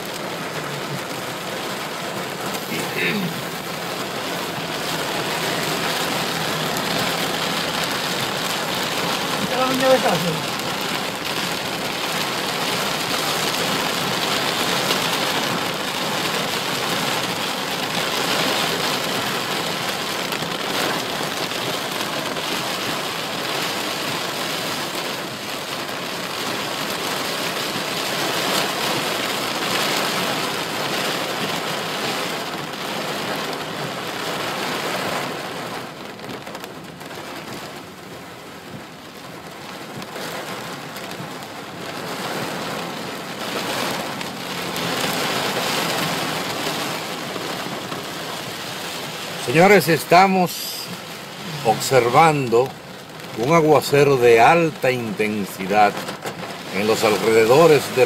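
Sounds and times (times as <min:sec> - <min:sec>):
heavy rain on car roof: 0:00.0 - 0:58.0.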